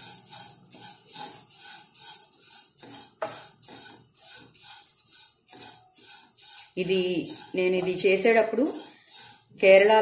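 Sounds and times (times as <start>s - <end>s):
spatula knocking pan: 0.0s - 10.0s
spatula scraping rice in pan: 0.0s - 10.0s.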